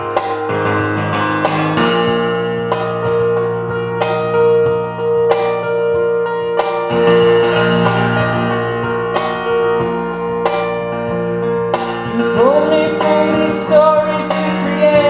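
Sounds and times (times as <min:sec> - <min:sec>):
sliding melody line: 0:00.0 - 0:15.0.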